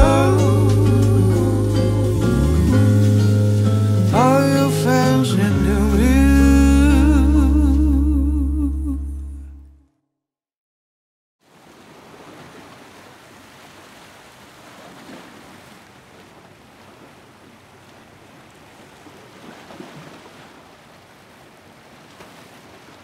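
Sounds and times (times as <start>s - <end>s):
surf washing: 0.0s - 7.4s, 11.4s - 23.0s.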